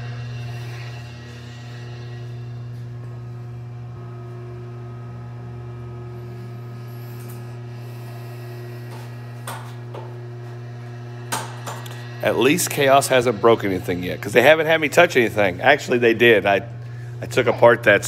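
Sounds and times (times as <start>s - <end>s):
electric motor humming: 0.0s - 18.0s.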